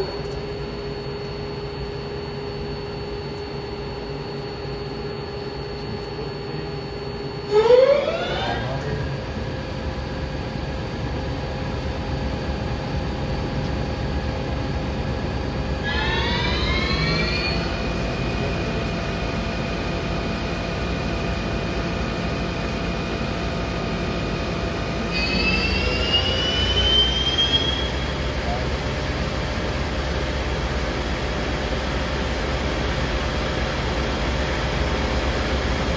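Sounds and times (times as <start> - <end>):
lathe spindle motor whine: 0.0 - 35.9.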